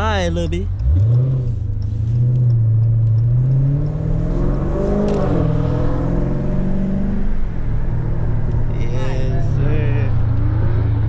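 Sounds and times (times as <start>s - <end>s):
car engine running: 0.0s - 11.0s
second engine rising and falling: 0.6s - 11.0s.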